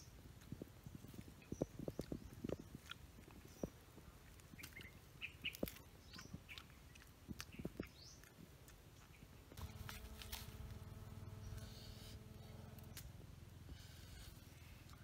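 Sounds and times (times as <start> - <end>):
birds chirping: 0.9 - 15.0.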